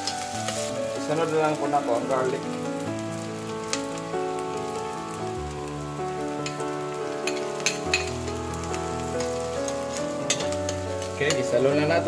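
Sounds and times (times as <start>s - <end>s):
background music with sustained chords: 0.0s - 12.0s
onions sizzling in oil: 0.0s - 12.0s.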